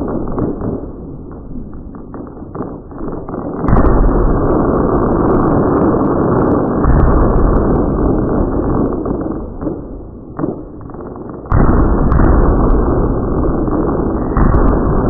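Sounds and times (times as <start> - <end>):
firework bang: 0.0 - 15.0
fireworks bursts and crackle: 0.0 - 15.0.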